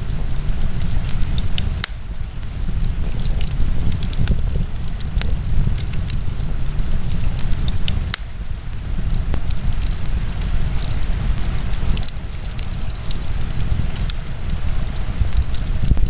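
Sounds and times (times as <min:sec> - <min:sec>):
fire low rumble: 0:00.0 - 0:16.0
wood fire popping and crackling: 0:00.0 - 0:16.0.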